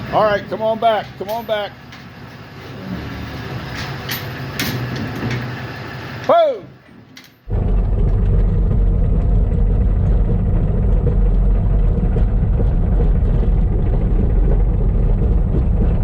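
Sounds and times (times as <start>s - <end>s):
heavy diesel engine running: 0.0s - 6.4s, 7.5s - 16.0s.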